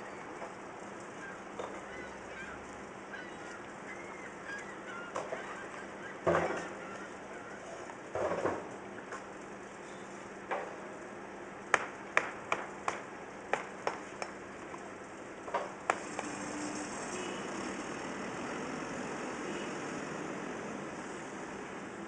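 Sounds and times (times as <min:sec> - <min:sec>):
hissing machine noise: 0:00.0 - 0:22.0.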